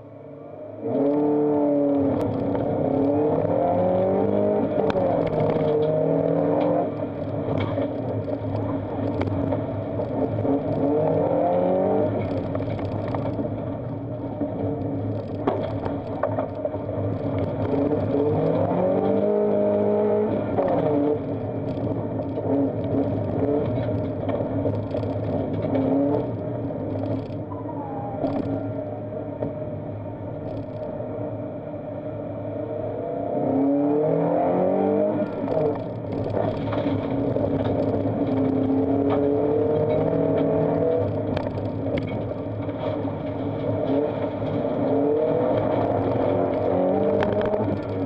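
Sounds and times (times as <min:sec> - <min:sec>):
car engine accelerating: 0:00.0 - 0:48.0
gravel ticking against car: 0:01.1 - 0:31.0, 0:34.7 - 0:48.0.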